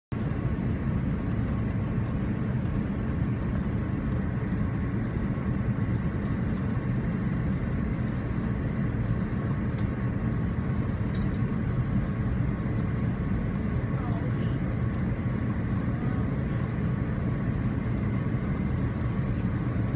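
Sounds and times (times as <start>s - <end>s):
aircraft cabin rumble: 0.1s - 19.9s.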